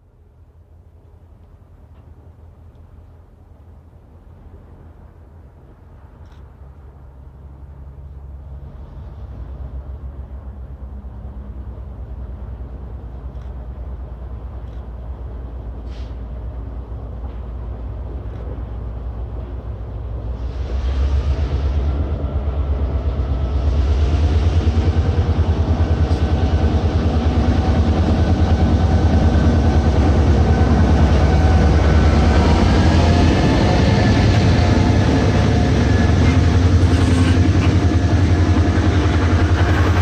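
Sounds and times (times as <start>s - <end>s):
diesel locomotive passing: 0.0s - 40.0s.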